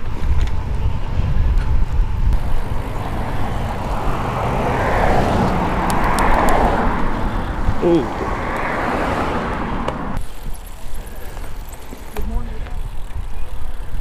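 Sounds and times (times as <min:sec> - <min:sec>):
wind buffeting microphone: 0:00.0 - 0:14.0
passing motor vehicle: 0:00.5 - 0:14.0.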